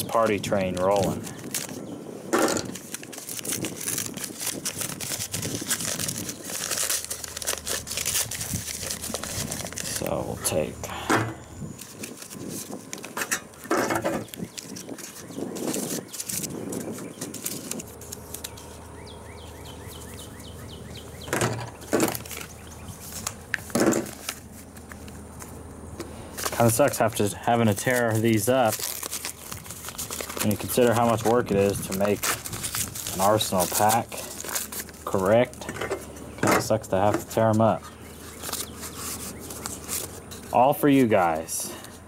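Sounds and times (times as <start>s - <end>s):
paper wrapper crinkling: 0.1s - 1.9s, 2.5s - 10.8s, 11.6s - 20.1s, 21.8s - 25.6s, 26.2s - 36.1s, 37.0s - 42.0s.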